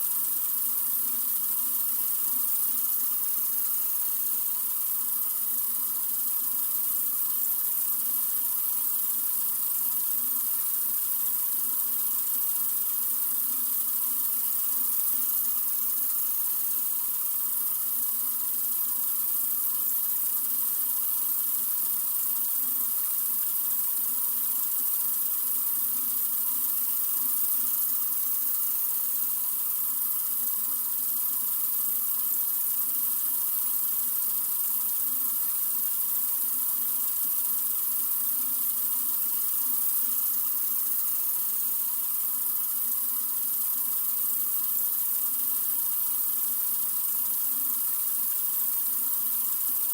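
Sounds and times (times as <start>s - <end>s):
sink faucet running: 0.1s - 49.9s.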